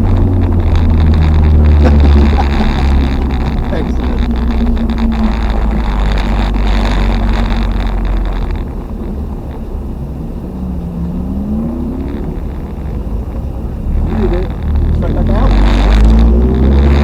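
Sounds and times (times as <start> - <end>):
car engine revving: 0.0 - 17.0
road and drivetrain noise: 0.0 - 17.0.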